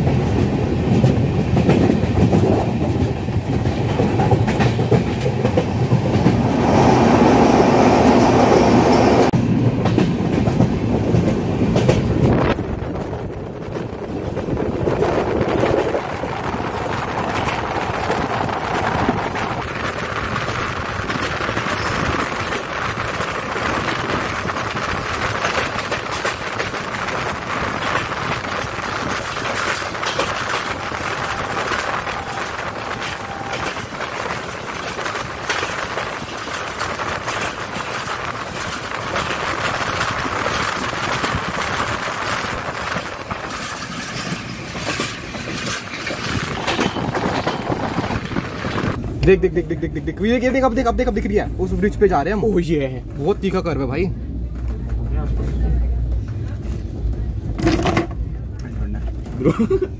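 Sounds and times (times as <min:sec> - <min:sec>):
wheels clicking on rails: 0:00.0 - 0:53.9
wind and wheel noise rushing: 0:00.0 - 0:59.9.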